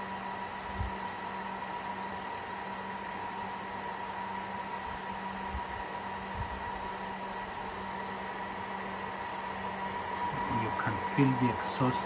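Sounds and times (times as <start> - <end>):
cooling fans whining: 0.0 - 12.0.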